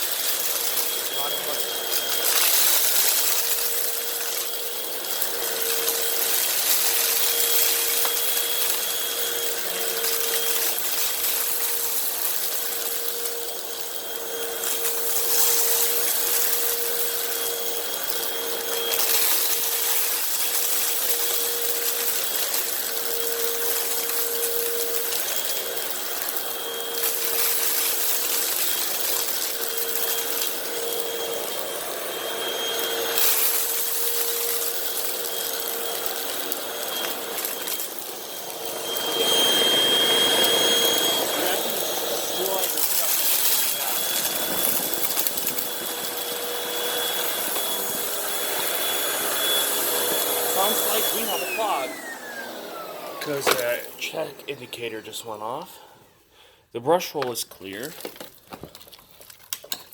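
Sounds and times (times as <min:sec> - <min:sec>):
vacuum rushing air on rug: 0:00.0 - 0:55.9
vacuum cleaner motor whine: 0:00.0 - 0:56.2.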